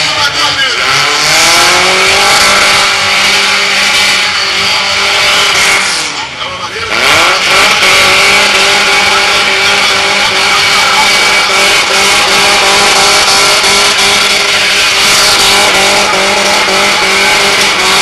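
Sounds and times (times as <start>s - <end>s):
car engine at high revs: 0.0s - 18.0s
tyres screeching: 0.0s - 18.0s.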